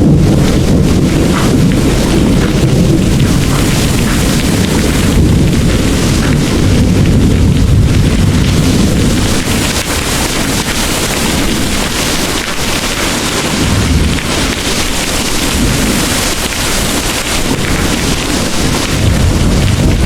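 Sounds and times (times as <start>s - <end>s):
distant thunder rumbling: 0.0s - 20.0s
heavy rain pouring: 0.0s - 20.0s.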